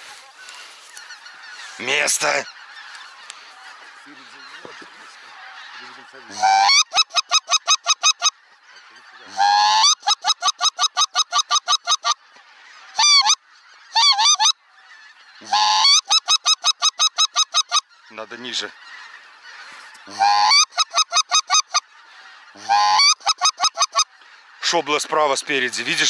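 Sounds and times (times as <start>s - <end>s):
flock of geese calling overhead: 0.0s - 26.0s
rapid goose honks: 0.0s - 26.0s.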